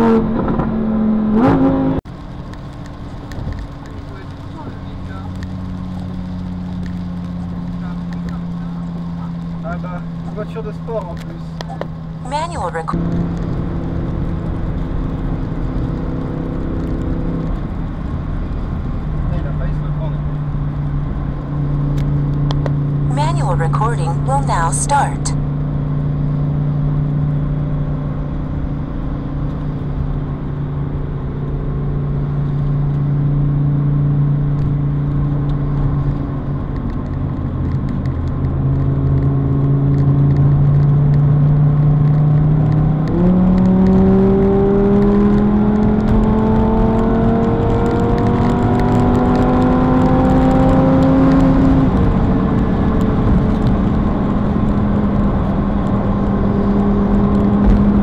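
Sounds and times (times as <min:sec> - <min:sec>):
car engine accelerating and shifting: 0:00.0 - 0:58.0
tyre and road noise: 0:00.0 - 0:58.0.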